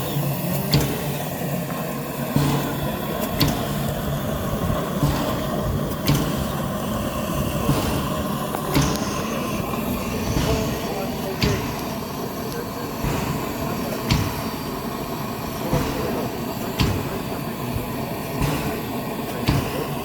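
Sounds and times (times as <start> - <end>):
sharp knocks of train wheels: 0.0 - 20.0
train rumbling: 0.0 - 20.0.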